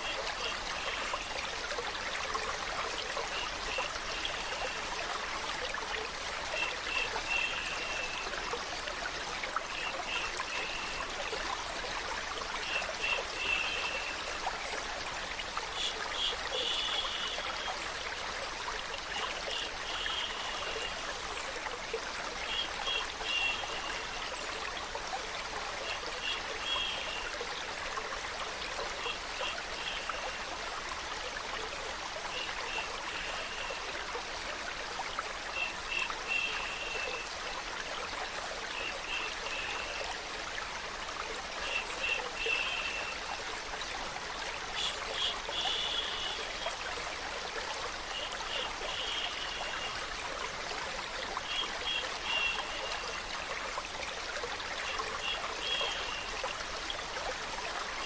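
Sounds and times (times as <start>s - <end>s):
stream trickling: 0.0s - 58.0s.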